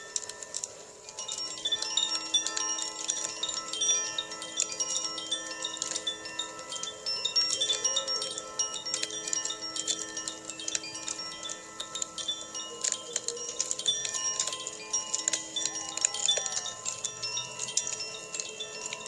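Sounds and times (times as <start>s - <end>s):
singing bowls ringing: 0.0s - 19.0s
wind chime tinkling: 0.0s - 19.0s.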